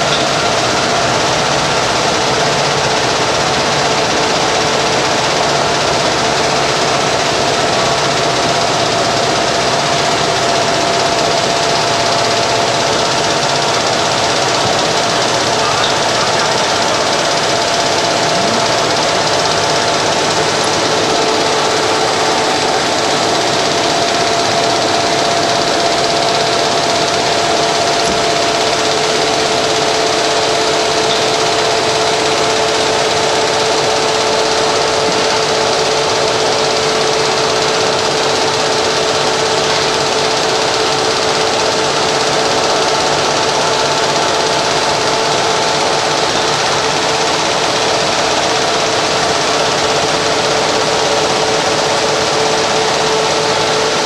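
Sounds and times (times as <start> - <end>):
machine mechanical whir: 0.0 - 43.4
machine whining tones: 0.0 - 43.5.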